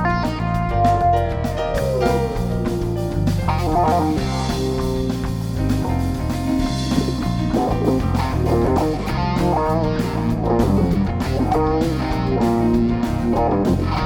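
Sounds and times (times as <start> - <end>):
bass guitar: 0.0 - 14.0
drum kit: 0.0 - 14.0
electric guitar: 0.0 - 14.0.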